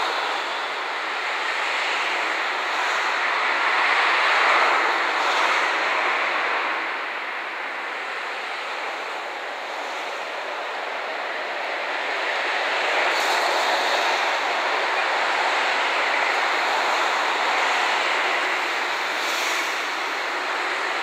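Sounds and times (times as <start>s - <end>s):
locomotive rushing noise: 0.0s - 21.0s.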